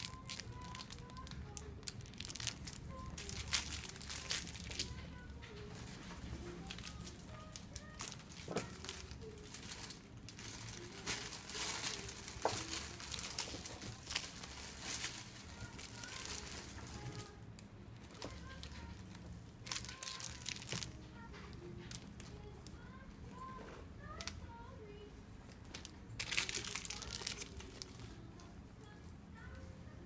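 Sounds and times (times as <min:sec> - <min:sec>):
plastic wrap crinkling: 0:00.0 - 0:17.4, 0:18.0 - 0:24.4, 0:25.6 - 0:28.5.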